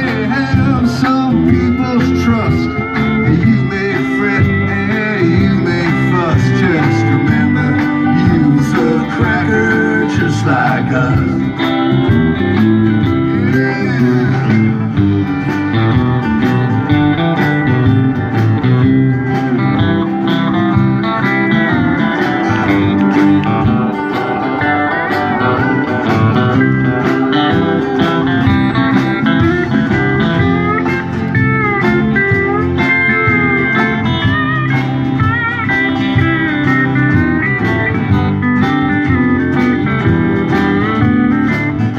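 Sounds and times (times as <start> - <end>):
country band playing: 0.0 - 41.9
pedal steel guitar sliding notes: 0.0 - 41.9.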